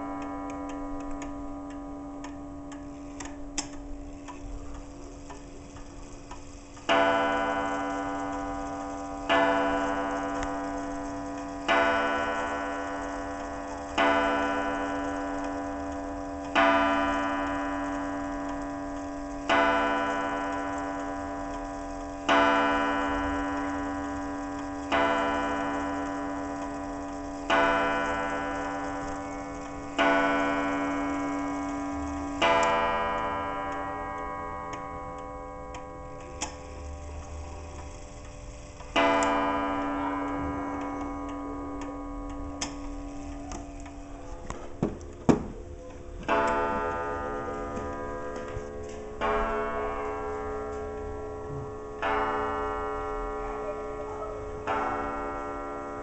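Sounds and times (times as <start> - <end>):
pendulum tick-tock: 0.0 - 56.0
wall clock striking: 0.0 - 56.0.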